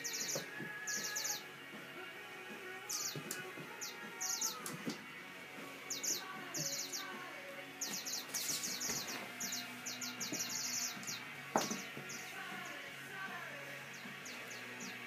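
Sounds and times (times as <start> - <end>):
birds chirping: 0.0 - 15.0
faint music: 0.0 - 15.0.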